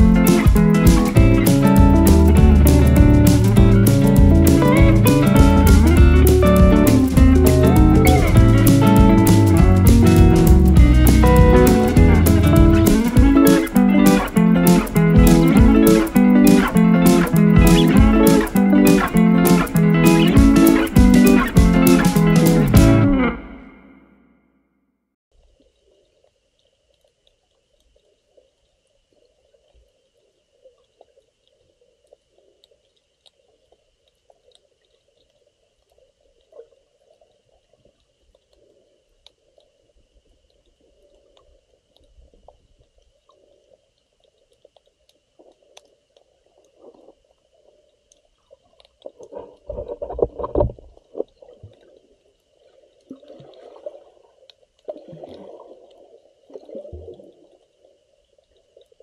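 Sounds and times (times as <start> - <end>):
muffled underwater sloshing: 0.0 - 24.0, 25.4 - 59.0.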